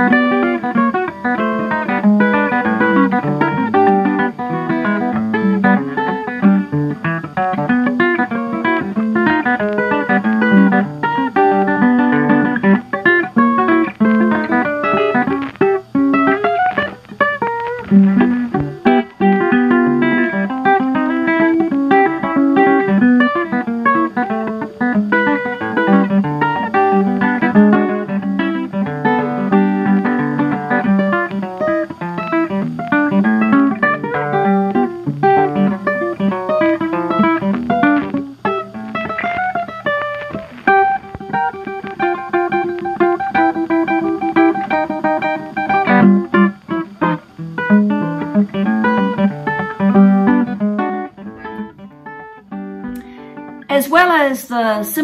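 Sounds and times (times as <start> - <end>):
ragtime guitar music: 0.0 - 55.0.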